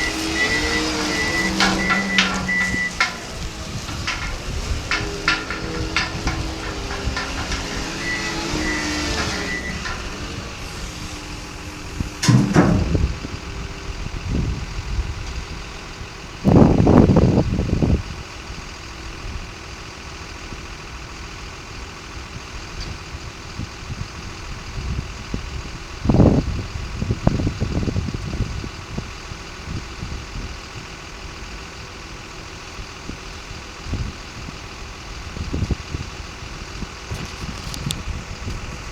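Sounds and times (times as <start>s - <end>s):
wheel loader diesel engine idling: 0.0s - 38.9s.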